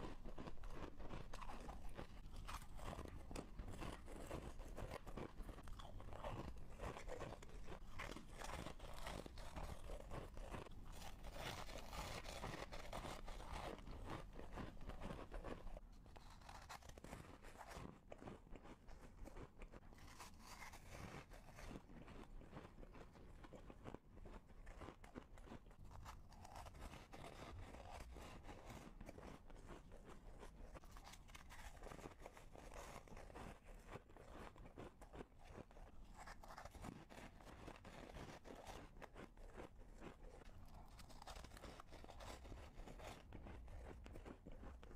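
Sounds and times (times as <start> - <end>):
chewing crunchy ice: 0.0 - 44.9.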